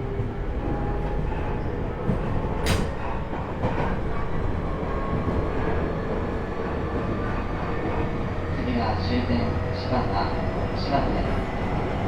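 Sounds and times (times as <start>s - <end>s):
train interior running rumble: 0.0s - 12.0s.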